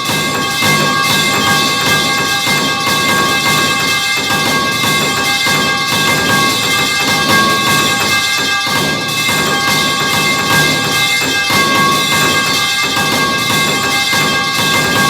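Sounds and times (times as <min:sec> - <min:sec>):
metal pipe clanging: 0:00.0 - 0:15.0.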